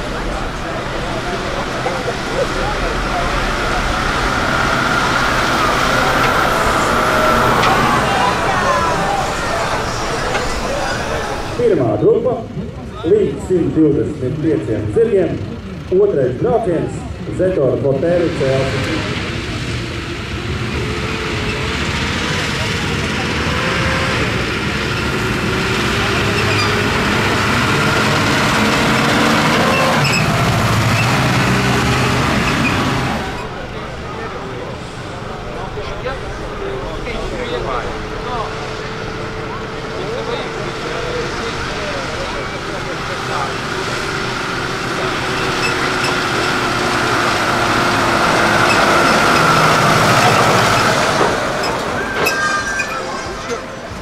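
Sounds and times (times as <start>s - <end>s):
tractor diesel engines under load: 0.0s - 54.0s.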